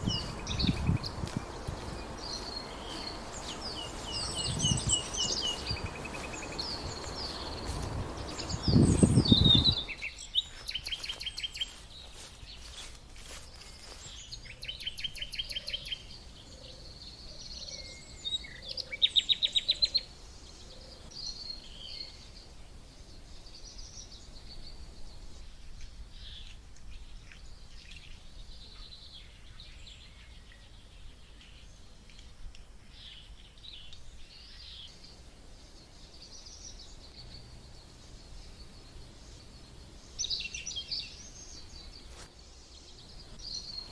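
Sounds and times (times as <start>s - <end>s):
outdoor background hiss: 0.0s - 43.9s
songbirds chirping: 0.0s - 43.9s.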